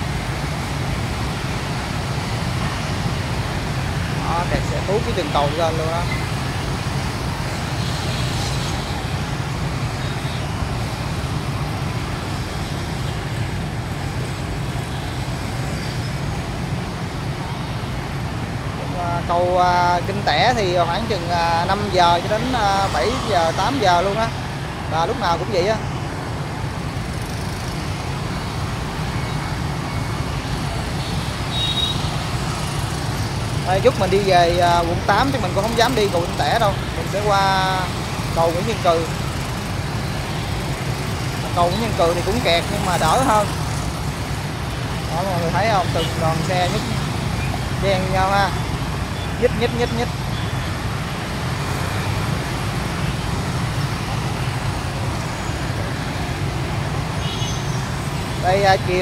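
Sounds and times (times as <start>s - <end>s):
engine rumble of traffic: 0.0s - 59.0s
road noise hiss: 0.0s - 59.0s.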